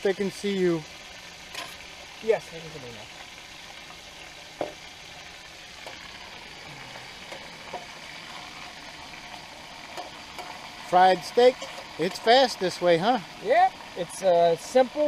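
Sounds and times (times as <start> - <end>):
steak sizzling in oil: 0.0 - 15.0.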